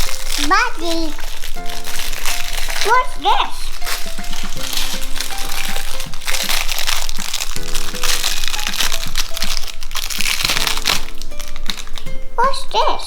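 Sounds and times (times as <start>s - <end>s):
plastic wrapper crinkling: 0.0s - 12.3s
background music with held notes: 0.0s - 13.0s.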